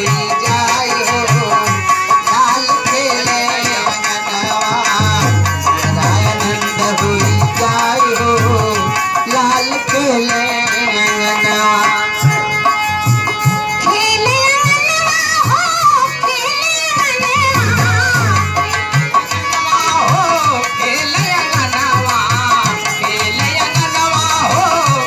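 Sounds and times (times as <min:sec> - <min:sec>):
hand drum beat: 0:00.0 - 0:25.0.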